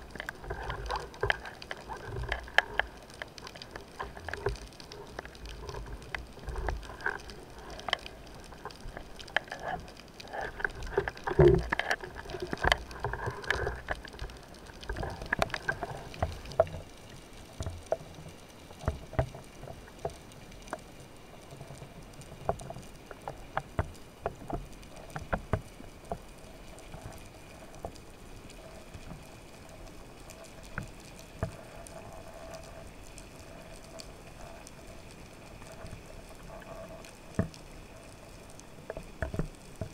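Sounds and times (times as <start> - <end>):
faint steady hum: 0.0 - 39.9
underwater water movement: 0.0 - 39.9.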